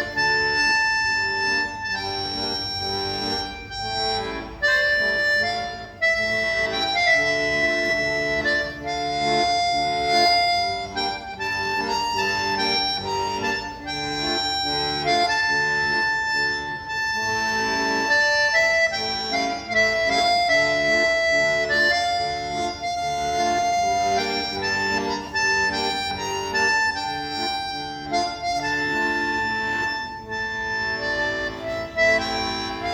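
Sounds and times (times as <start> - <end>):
accordion-like melody and chords: 0.0 - 32.9.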